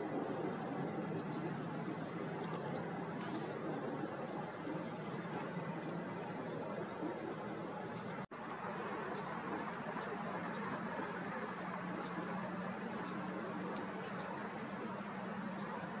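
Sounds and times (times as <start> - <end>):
faint insect chirp: 0.0 - 16.0
low background hum: 0.0 - 16.0.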